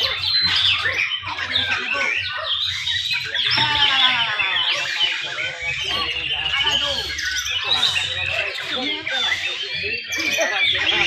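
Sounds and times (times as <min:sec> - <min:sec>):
birds singing overlapping whistles: 0:00.0 - 0:11.0.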